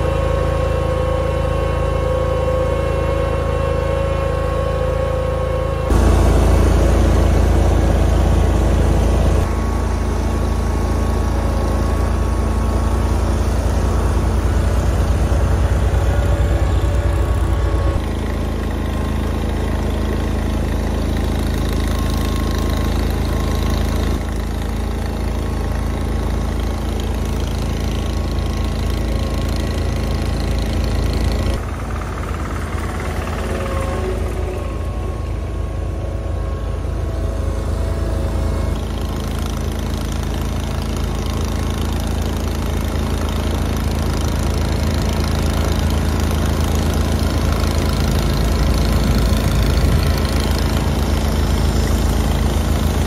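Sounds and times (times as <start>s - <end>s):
garden tractor engines running: 0.0s - 53.0s.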